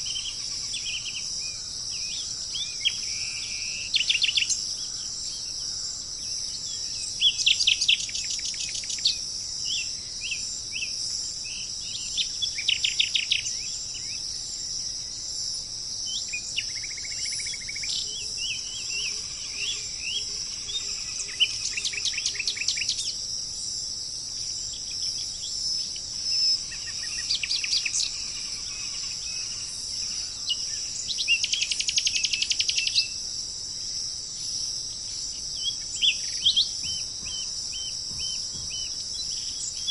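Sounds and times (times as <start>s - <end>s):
songbird trilling: 0.0s - 14.2s, 16.0s - 23.2s, 24.7s - 33.2s, 35.3s - 39.9s
high-pitched hiss: 0.0s - 39.9s.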